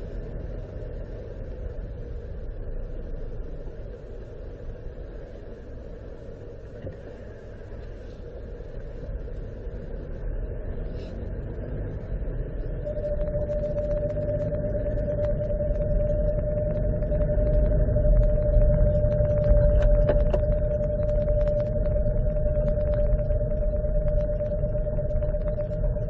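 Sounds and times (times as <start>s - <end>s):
car engine low rumble: 0.0s - 26.0s
steady high whine: 0.0s - 26.0s.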